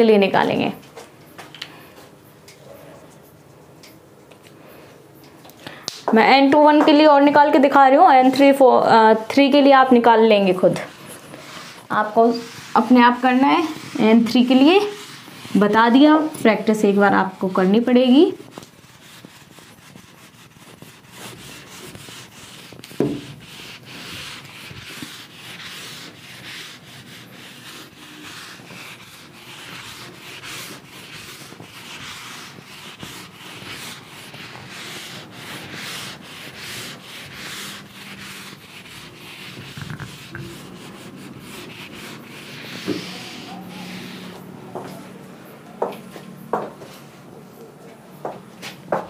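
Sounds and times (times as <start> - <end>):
duster rubbing on whiteboard: 6.5 - 47.1.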